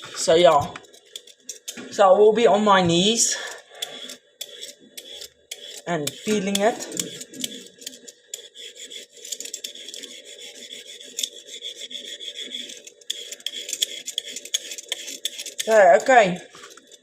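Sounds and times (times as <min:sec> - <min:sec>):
peeler scraping carrot: 0:00.0 - 0:17.0.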